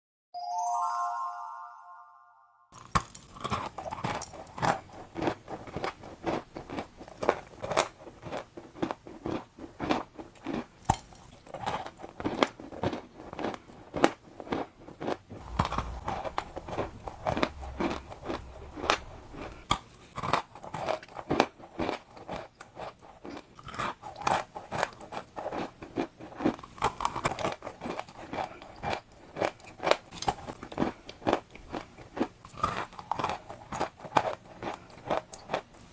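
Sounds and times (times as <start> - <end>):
crunchy balls crunching: 2.8 - 35.7.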